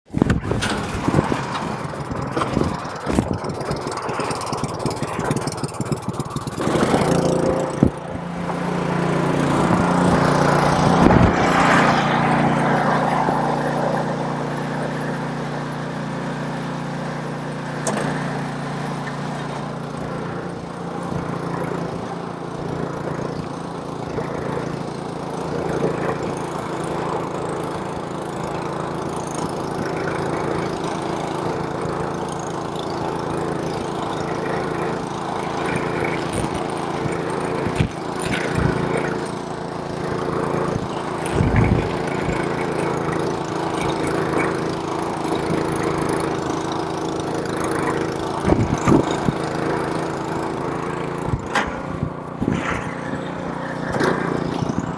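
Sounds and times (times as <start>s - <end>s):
small gasoline engine starting: 0.1s - 54.9s.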